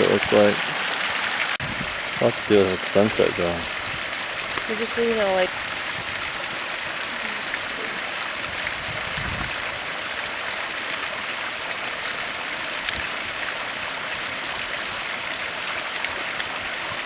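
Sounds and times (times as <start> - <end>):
water splashing over pond waterfall: 0.0 - 17.0.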